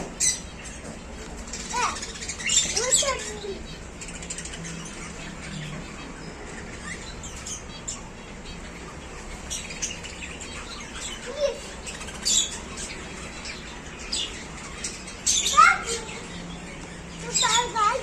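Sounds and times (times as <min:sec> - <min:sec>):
birds chirping and squawking: 0:00.0 - 0:18.0.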